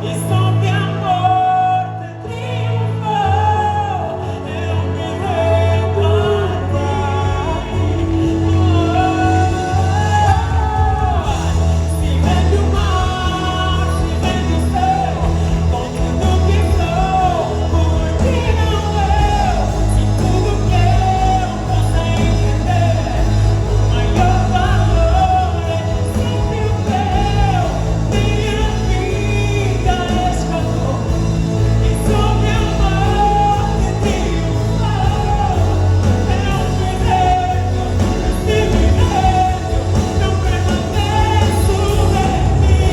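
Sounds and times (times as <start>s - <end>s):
band playing: 0.0s - 42.9s
steady sustained bass: 0.0s - 42.9s
voices singing gospel: 0.0s - 42.9s.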